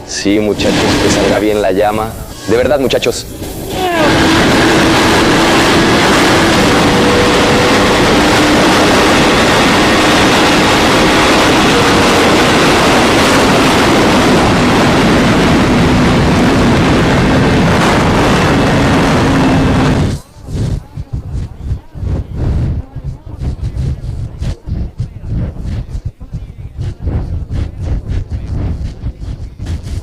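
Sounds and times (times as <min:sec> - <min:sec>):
loud steady rush: 0:00.0 - 0:30.0
motorcycle engine running: 0:03.9 - 0:30.0.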